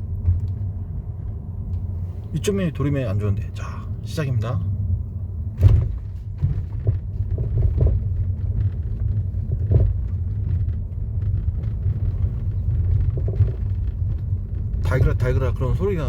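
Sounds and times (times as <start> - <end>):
suspension rattling and clunking: 0.0 - 3.3, 4.1 - 16.0
low road rumble: 0.0 - 16.0.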